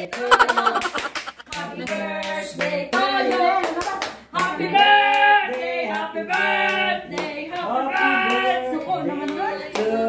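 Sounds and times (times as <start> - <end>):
hand claps: 0.0 - 4.5, 5.5 - 9.9
group singing unaccompanied: 0.0 - 10.0.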